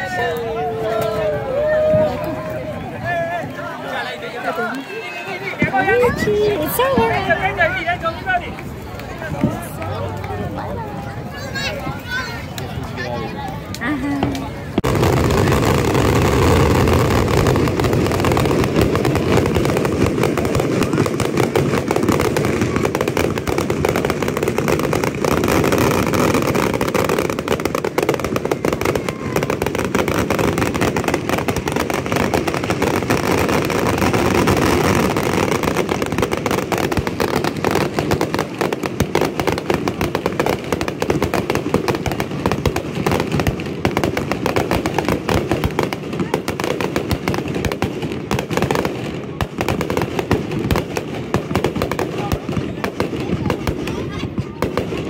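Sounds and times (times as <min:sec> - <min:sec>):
fireworks rumble and crackle: 0:00.0 - 0:55.0.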